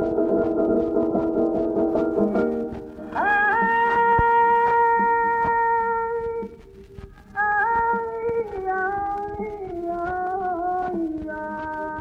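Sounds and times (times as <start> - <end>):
flamenco singing: 0.0 - 12.0.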